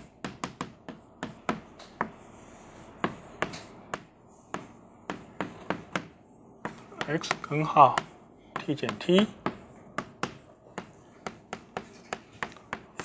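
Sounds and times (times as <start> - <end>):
chalk tapping on blackboard: 0.0 - 13.0.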